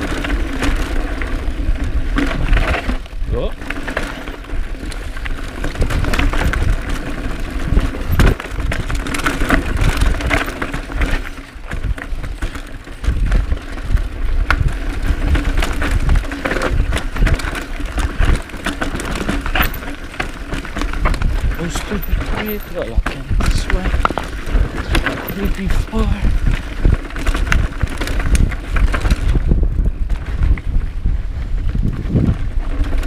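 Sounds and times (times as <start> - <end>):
bike clattering: 0.0 - 33.0
bike tyres knocking over rocks: 0.0 - 33.0
wind rumbling on microphone: 0.0 - 33.0.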